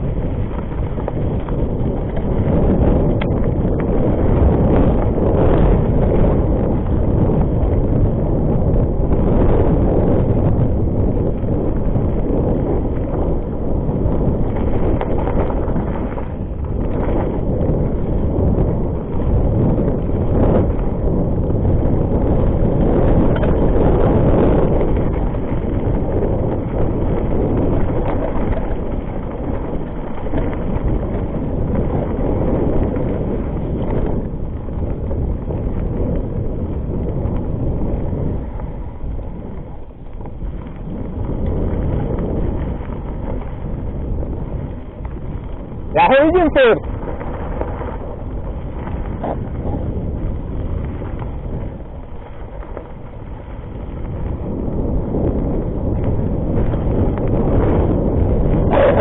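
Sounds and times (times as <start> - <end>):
bike rattling over bumps: 0.0 - 59.0
tyre rumble: 0.0 - 59.0
wind buffeting microphone: 0.0 - 59.0.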